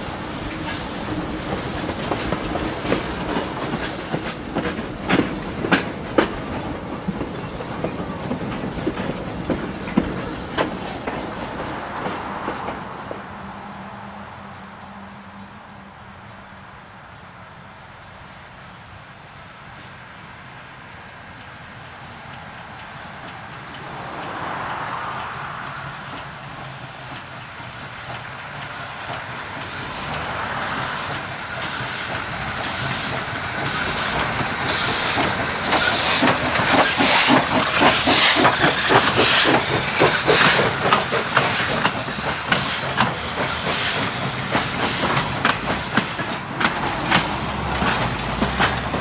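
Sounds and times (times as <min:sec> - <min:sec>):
steam hissing: 0:00.0 - 0:14.1, 0:19.4 - 0:49.0
train wheels clicking on rails: 0:00.0 - 0:14.1, 0:19.4 - 0:49.0
steam locomotive exhaust chuffs: 0:00.0 - 0:49.0.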